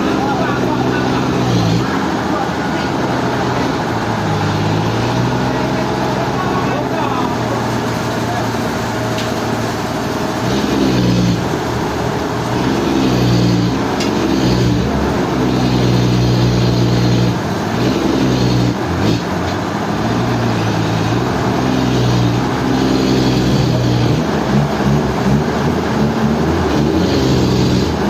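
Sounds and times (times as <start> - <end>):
sawmill motor hum: 0.0 - 28.0.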